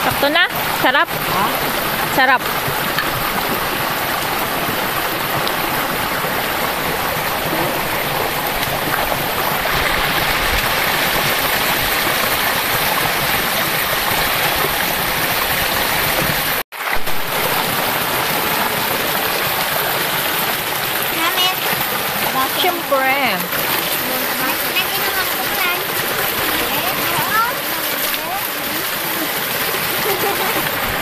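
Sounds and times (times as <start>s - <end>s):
stream running over rocks: 0.0s - 31.0s.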